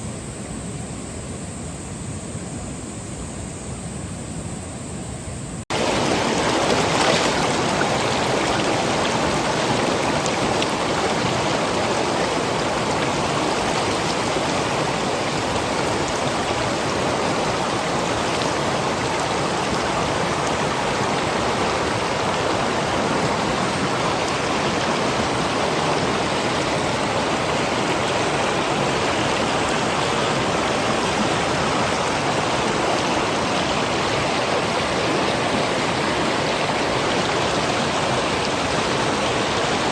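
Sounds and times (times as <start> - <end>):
stream water rushing: 5.7 - 39.9.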